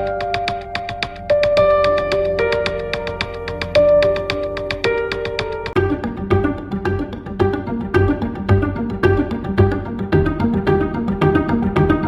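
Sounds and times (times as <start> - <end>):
melodic music over quick beat: 0.0 - 12.0.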